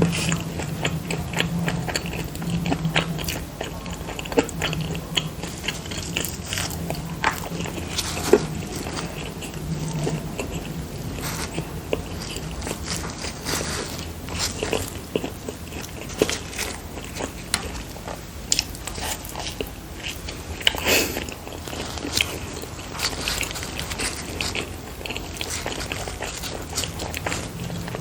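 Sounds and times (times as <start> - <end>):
chewing dumplings: 0.0 - 28.0.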